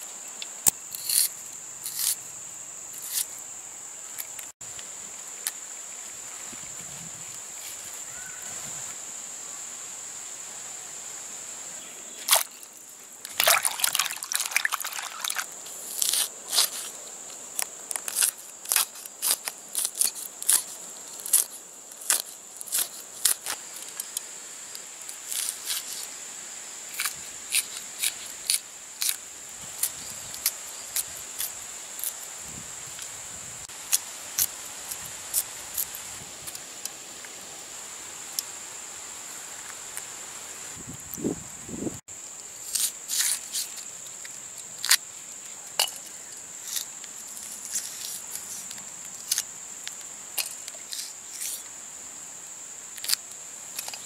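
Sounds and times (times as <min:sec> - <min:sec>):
high insect drone: 0:00.0 - 0:54.0.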